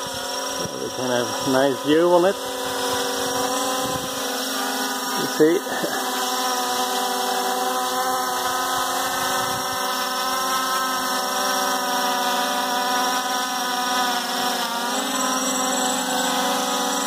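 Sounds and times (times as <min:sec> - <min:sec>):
quadcopter drone whine: 0:00.0 - 0:17.0.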